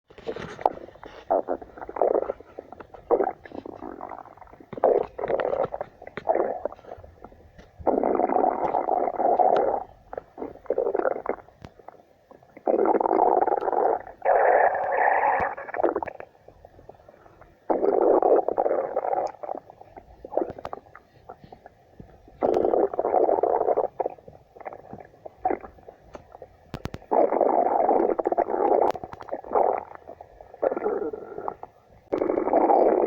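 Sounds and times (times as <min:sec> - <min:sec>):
cartoon stomach growl: 0:00.2 - 0:07.0, 0:07.8 - 0:16.3, 0:17.7 - 0:21.6, 0:22.4 - 0:33.0.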